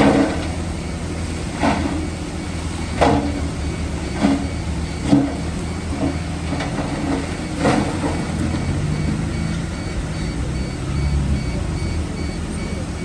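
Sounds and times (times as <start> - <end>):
heavy diesel machinery rumbling: 0.0 - 13.0.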